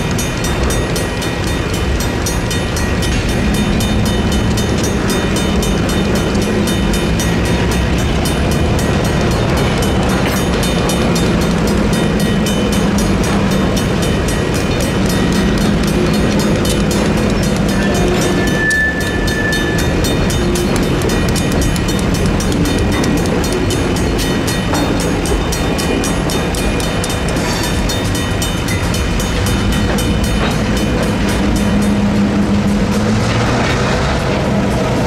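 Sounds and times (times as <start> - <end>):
crossing bells ringing: 0.0 - 35.0
diesel locomotive engine: 0.0 - 35.0
train wheels rumbling on rails: 0.0 - 35.0.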